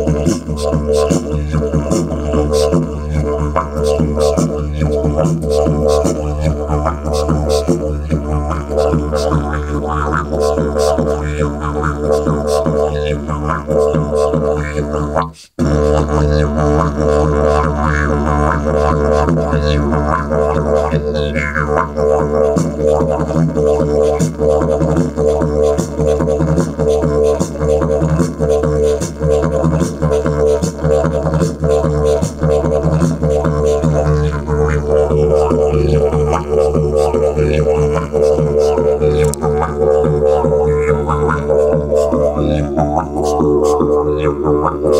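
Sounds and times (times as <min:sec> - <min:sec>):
didgeridoo drone: 0:00.0 - 0:44.9.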